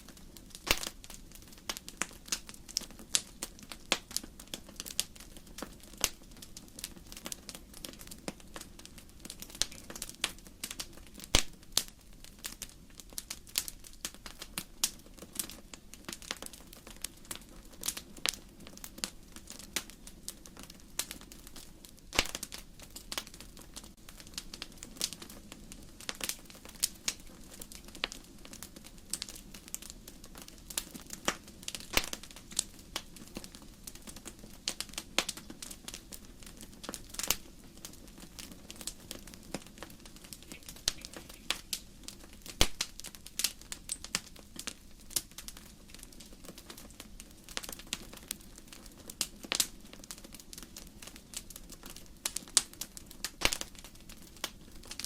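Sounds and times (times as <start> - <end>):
firewood crackling and popping: 0.0 - 55.0
low fire rumble: 0.0 - 55.0.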